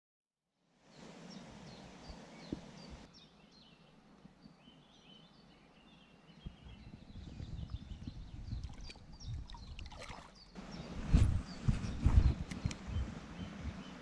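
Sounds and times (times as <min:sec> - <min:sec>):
faint outdoor hiss: 0:00.6 - 0:14.0
songbirds chirping and trilling: 0:00.8 - 0:14.0.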